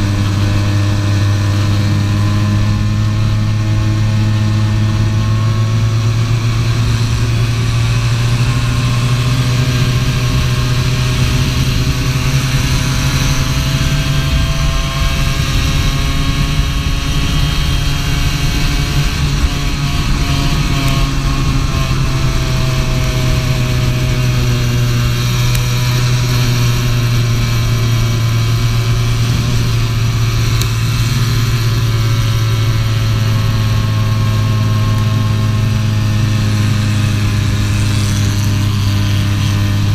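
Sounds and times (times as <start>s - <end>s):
racing kart engine running hard: 0.0s - 39.9s.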